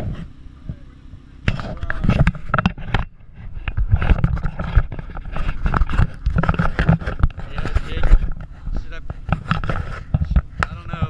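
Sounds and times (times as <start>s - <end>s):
camera handling knocks and scrapes: 1.5s - 11.0s.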